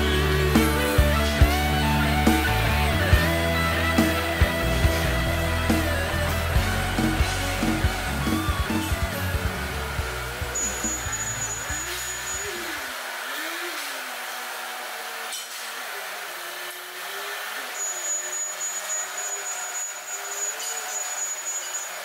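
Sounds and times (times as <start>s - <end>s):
forklift engine running: 0.0s - 22.0s.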